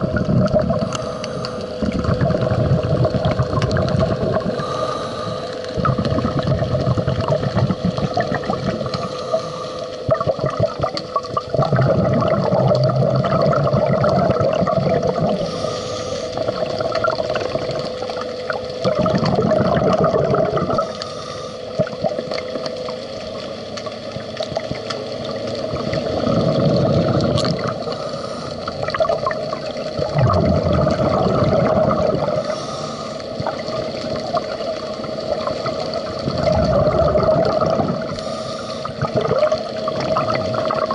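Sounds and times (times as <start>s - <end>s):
diver exhaling bubbles: 0.0s - 22.6s, 25.6s - 40.9s
faint steady hum: 0.0s - 40.9s.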